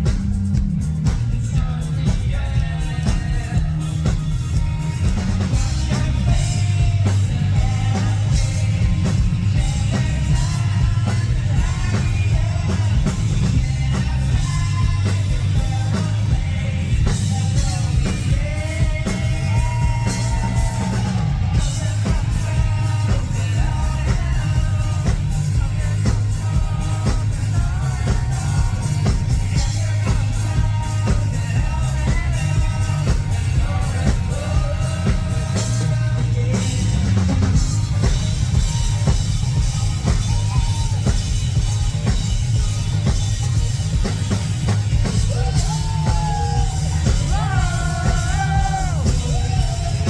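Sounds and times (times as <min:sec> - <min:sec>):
lead singer singing: 0:00.0 - 0:50.0
rock band playing live: 0:00.0 - 0:50.0.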